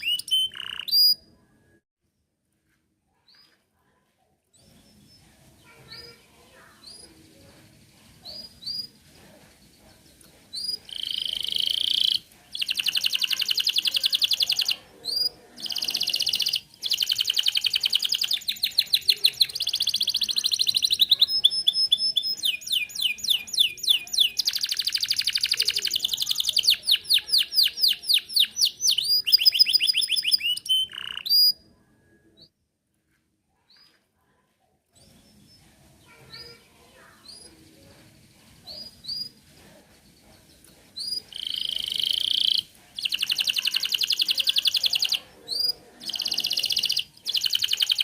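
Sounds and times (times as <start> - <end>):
canary trilling song: 0.0 - 1.8, 4.5 - 32.5, 34.9 - 37.9, 38.6 - 48.0.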